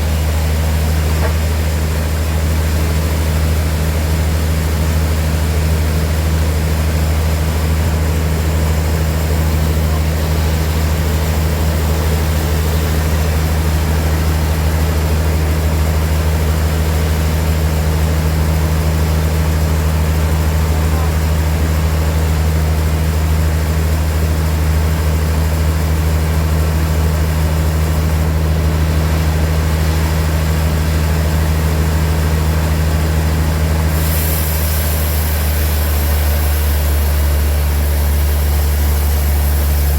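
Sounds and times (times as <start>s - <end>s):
sawmill machinery engine drone: 0.0s - 39.9s.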